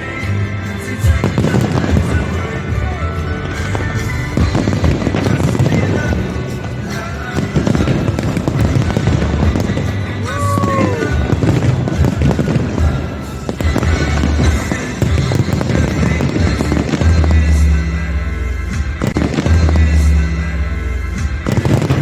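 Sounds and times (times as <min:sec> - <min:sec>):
fireworks bursting with deep bangs: 0:00.0 - 0:22.0
loud music: 0:00.0 - 0:22.0.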